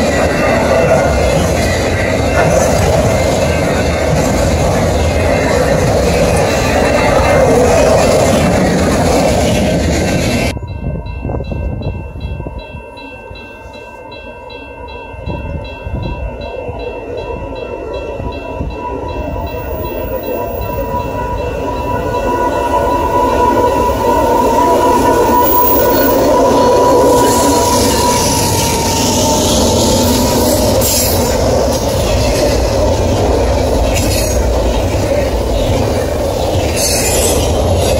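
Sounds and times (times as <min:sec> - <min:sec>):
diesel locomotive passing: 0:00.0 - 0:37.9.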